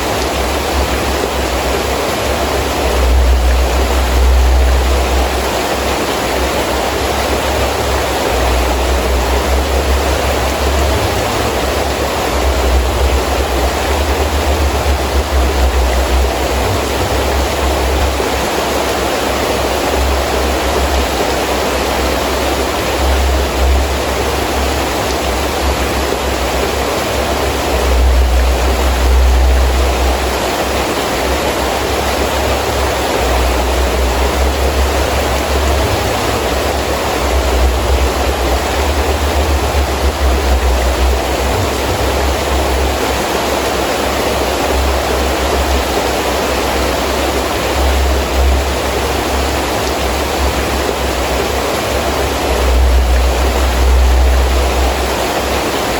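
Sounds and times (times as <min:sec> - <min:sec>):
heavy rain hissing: 0:00.0 - 0:55.9
wind gusts rumbling: 0:00.0 - 0:55.9.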